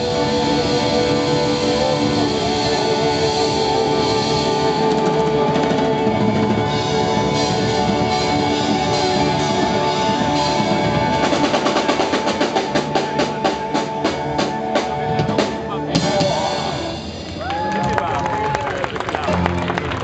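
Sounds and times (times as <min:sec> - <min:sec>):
rock band playing loudly: 0:00.0 - 0:20.0.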